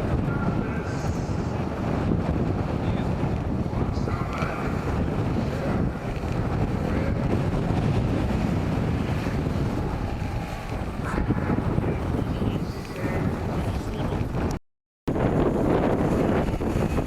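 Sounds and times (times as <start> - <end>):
vehicle engine rumble: 0.0 - 17.0
wind buffeting microphone: 0.0 - 17.0.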